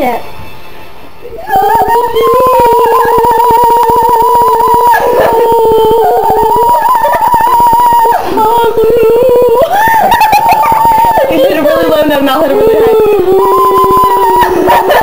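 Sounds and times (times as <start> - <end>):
girls singing: 1.2 - 15.0.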